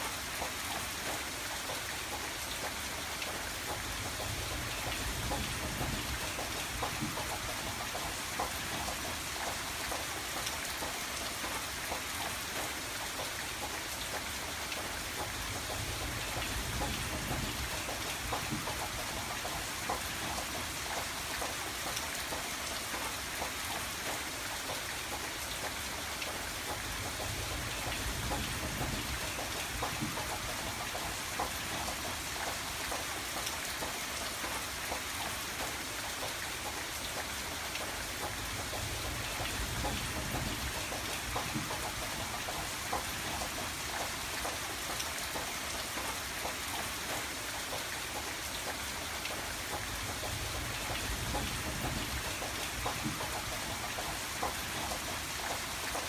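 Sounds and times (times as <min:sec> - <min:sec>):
rain on a window: 0:00.0 - 0:56.0.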